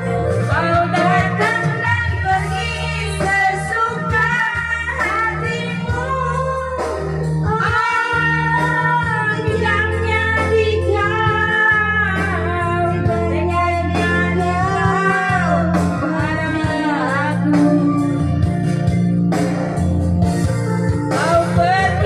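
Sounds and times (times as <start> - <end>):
instrumental backing with bass line: 0.0 - 22.0
woman singing: 0.4 - 18.5, 21.1 - 22.0.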